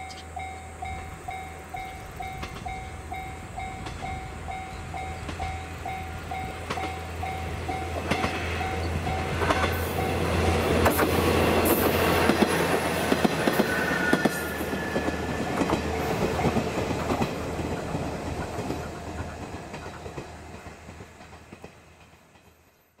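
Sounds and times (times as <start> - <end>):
diesel train engine drone: 0.0 - 22.9
train wheels clacking over rail joints: 3.6 - 22.8.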